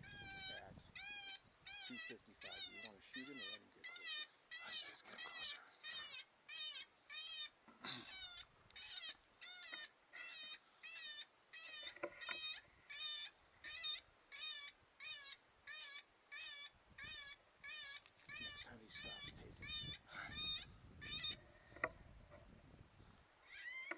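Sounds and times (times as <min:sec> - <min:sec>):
electronic animal distress cry: 0:00.0 - 0:21.9, 0:23.4 - 0:23.9.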